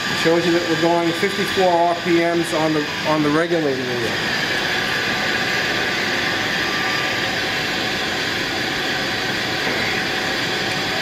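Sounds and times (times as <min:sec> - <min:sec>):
grinder running: 0:00.0 - 0:11.0.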